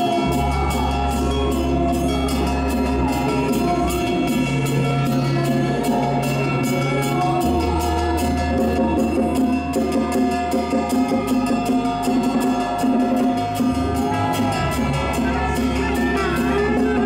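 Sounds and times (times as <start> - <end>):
long held bass notes: 0.0 - 17.0
steady drum beat: 0.0 - 17.0.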